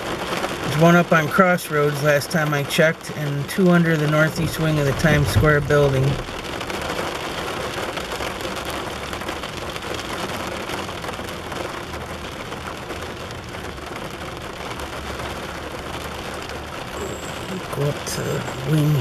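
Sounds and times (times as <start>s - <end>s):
rain on a car roof: 0.0s - 19.0s.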